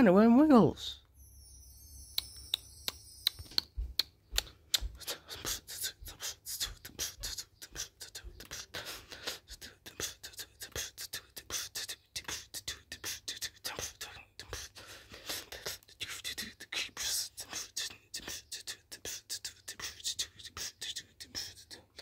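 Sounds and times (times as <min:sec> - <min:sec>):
beatboxing mouth clicks and puffs: 0:03.3 - 0:22.0.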